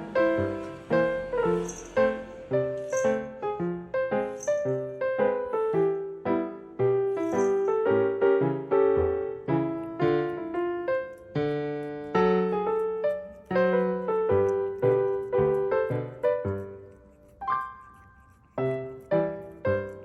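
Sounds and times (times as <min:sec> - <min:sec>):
piano notes and chords: 0:00.0 - 0:20.0.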